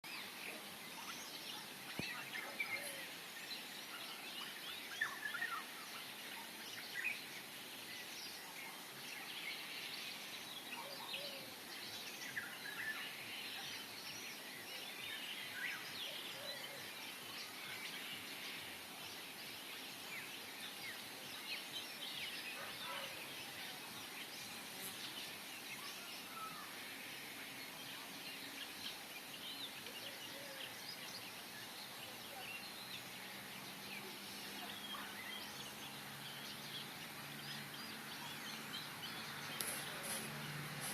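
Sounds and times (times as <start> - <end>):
faint outdoor hiss: 0.0 - 40.9
birds chirping and calling: 0.1 - 7.5, 9.6 - 40.9.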